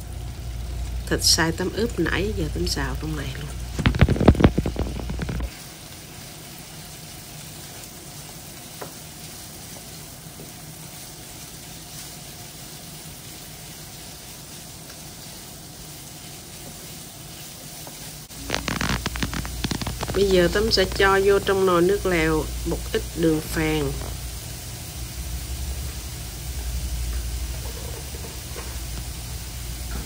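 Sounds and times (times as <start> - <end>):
meat sizzling in frying pan: 0.0 - 30.0.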